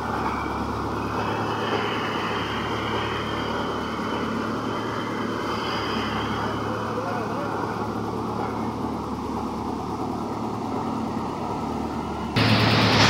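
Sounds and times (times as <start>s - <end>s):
thresher machine drone: 0.0s - 13.0s.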